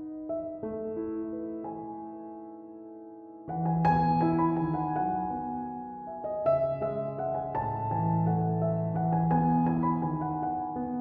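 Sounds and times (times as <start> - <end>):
gentle piano notes: 0.0 - 11.0.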